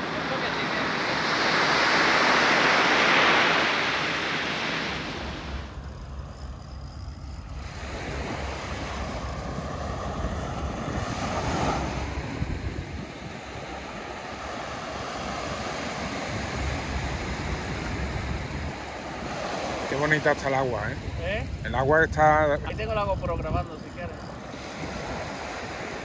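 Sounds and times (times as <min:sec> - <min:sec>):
small waves breaking on beach: 0:00.0 - 0:05.9, 0:07.5 - 0:26.0
wind rumbling on microphone: 0:00.0 - 0:26.0.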